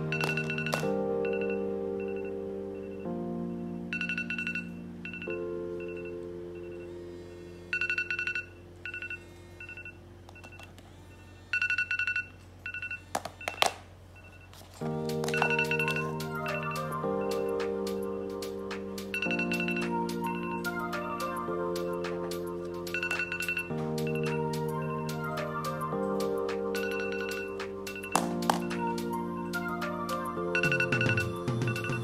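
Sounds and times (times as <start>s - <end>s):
high ringing trill: 0.0s - 10.0s, 15.2s - 32.0s
mobile phone ringtone: 0.0s - 32.0s.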